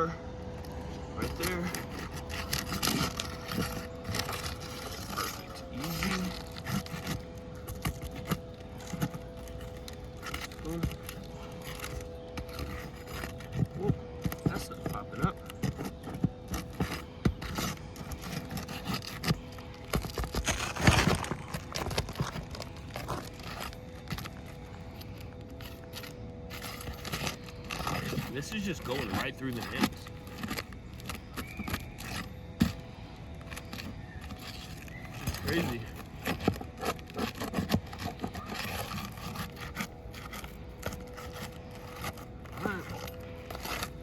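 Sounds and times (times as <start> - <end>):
pry tool scraping shingle: 0.4 - 44.0.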